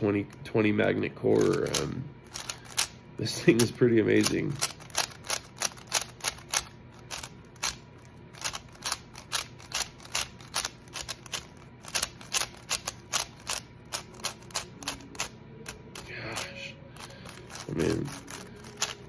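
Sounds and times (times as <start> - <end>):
puzzle cube plastic clicks: 1.3 - 16.1, 17.0 - 19.0.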